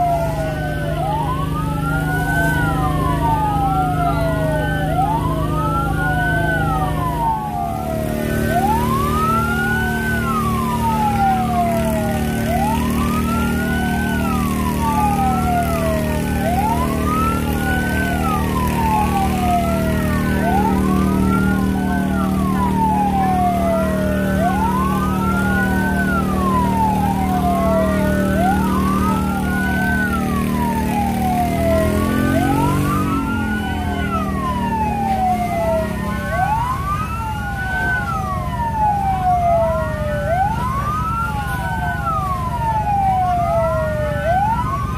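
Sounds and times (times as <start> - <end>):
fire engine sirens wailing: 0.0 - 44.9
low engine drone: 0.0 - 44.9.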